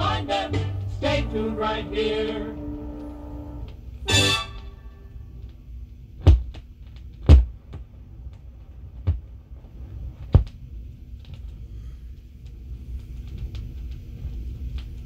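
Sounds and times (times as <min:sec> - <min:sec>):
turntable low rumble: 0:00.0 - 0:15.0.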